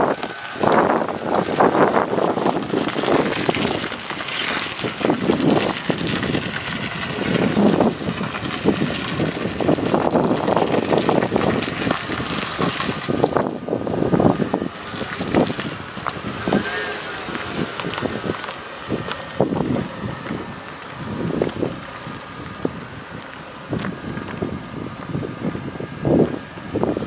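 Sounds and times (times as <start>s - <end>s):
pickup truck driving past: 0.0s - 27.0s
wind buffeting microphone: 0.0s - 27.0s.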